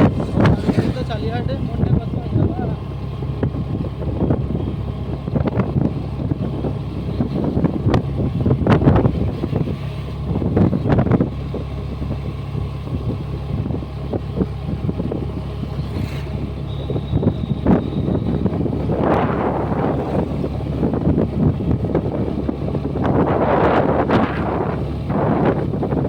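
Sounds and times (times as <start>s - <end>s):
scooter engine running: 0.0s - 26.0s
wind buffeting microphone: 0.0s - 26.0s.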